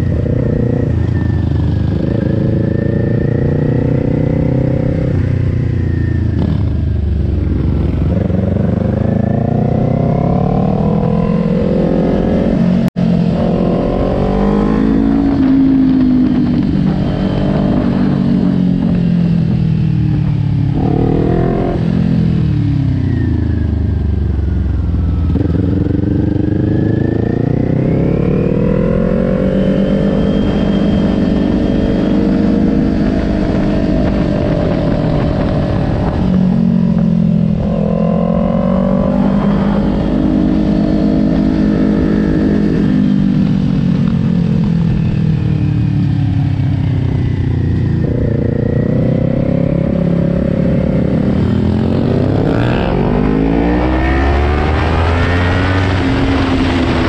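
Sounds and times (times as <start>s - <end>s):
motorcycle engine revving: 0.0s - 57.0s
wind rush: 4.0s - 23.1s, 28.4s - 57.0s.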